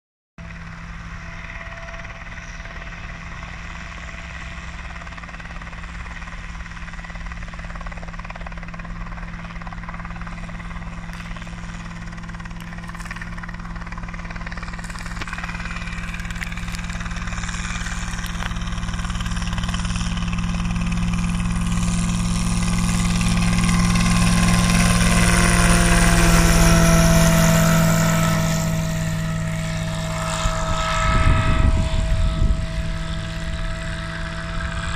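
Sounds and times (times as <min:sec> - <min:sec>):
helicopter engine and rotor: 0:00.4 - 0:34.9.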